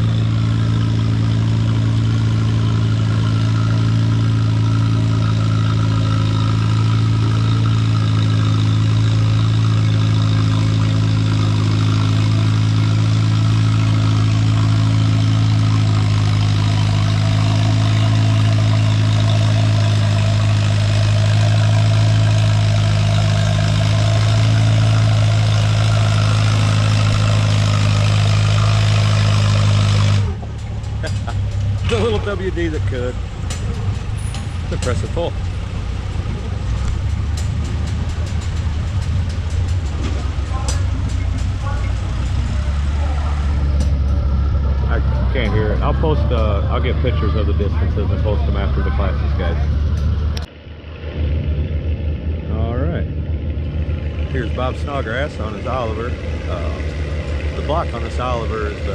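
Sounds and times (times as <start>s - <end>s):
tractor engine running under load: 0.0s - 58.9s.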